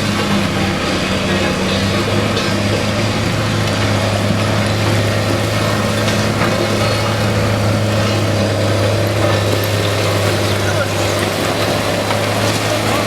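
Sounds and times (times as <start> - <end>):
heavy vehicle engine droning: 0.0 - 13.0.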